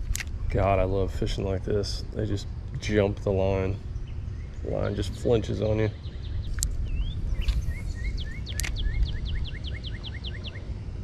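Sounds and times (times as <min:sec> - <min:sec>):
low rumble: 0:00.0 - 0:11.0
songbird singing: 0:00.0 - 0:11.0.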